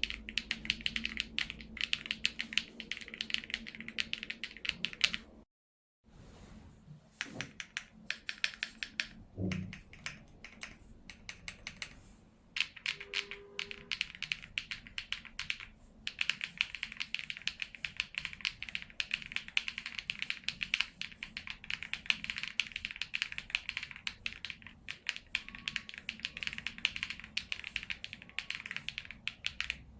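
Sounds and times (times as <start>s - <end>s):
mechanical keyboard typing: 0.0s - 5.3s, 7.2s - 12.0s, 12.6s - 29.9s.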